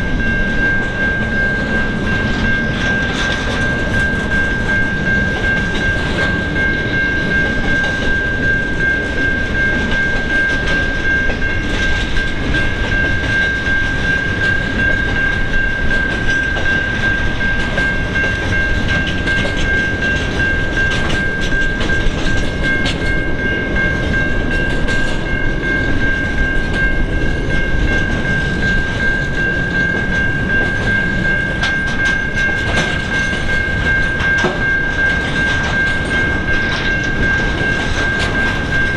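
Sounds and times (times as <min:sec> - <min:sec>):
train wheels clicking over rail joints: 0:00.0 - 0:38.9.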